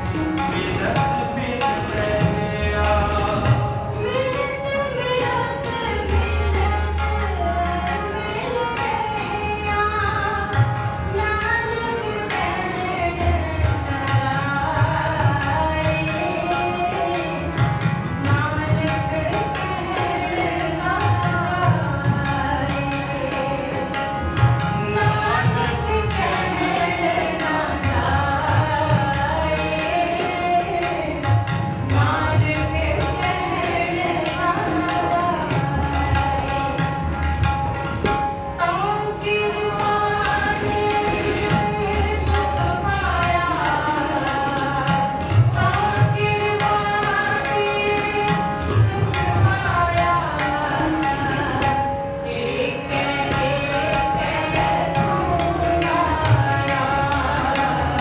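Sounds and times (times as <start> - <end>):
harmonium sustained notes: 0.0 - 58.0
tabla drum strokes: 0.0 - 58.0.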